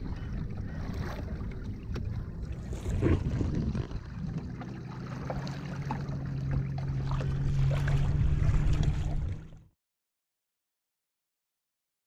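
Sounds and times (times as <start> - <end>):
water splashing against hull: 0.0 - 9.7
wind rumble on microphone: 0.0 - 9.7.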